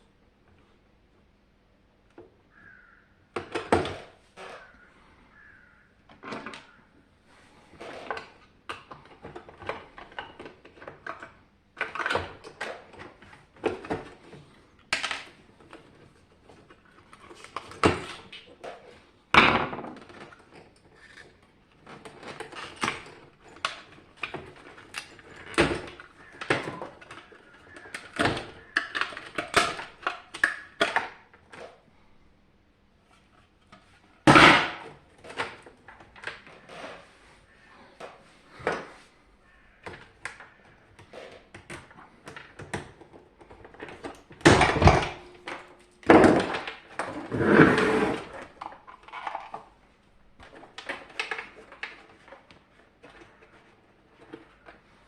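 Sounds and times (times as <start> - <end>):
knocks and rattles of parts handled: 7.7 - 31.8, 33.0 - 47.3, 48.2 - 55.0.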